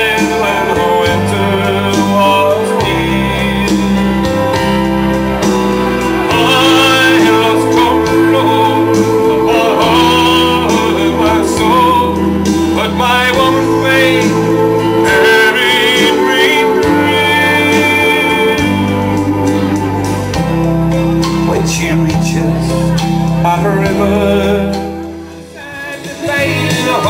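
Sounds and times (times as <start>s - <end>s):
sliding guitar lines: 0.0s - 27.0s
sustained bass notes: 0.0s - 27.0s.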